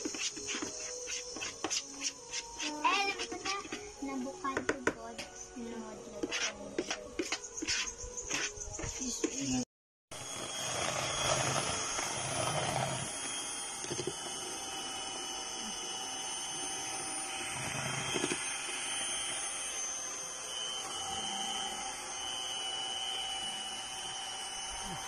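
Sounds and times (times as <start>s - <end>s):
electric hand mixer whining: 0.0s - 8.5s, 10.1s - 25.0s.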